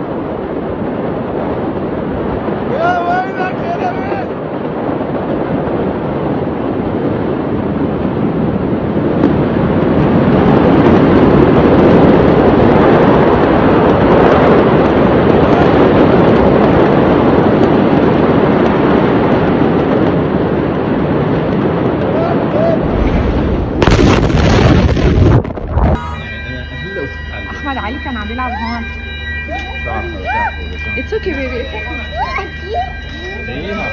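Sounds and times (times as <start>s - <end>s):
loud steady rushing noise: 0.0s - 24.5s, 26.0s - 33.9s.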